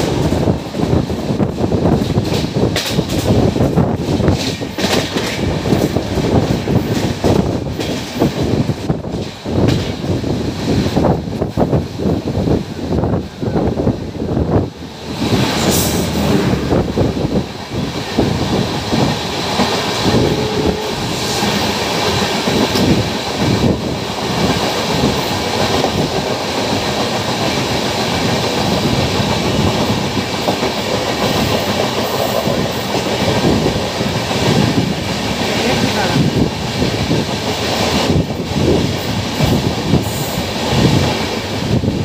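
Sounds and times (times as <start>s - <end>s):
passing train rumble: 0.0s - 42.0s.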